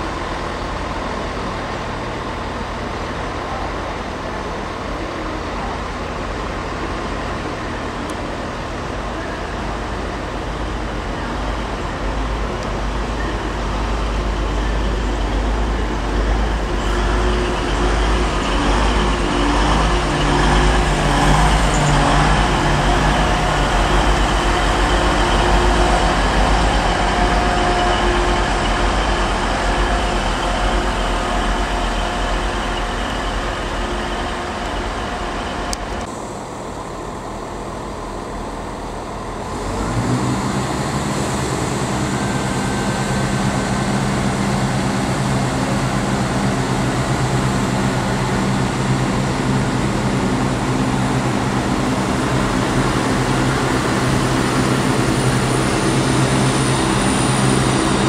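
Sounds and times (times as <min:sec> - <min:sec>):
diesel train passing: 0:00.0 - 0:58.0.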